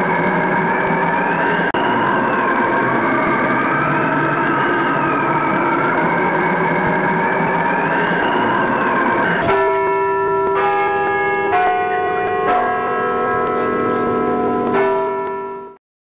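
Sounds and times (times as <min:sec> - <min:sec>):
bell-like chimed chords: 0:00.0 - 0:15.8.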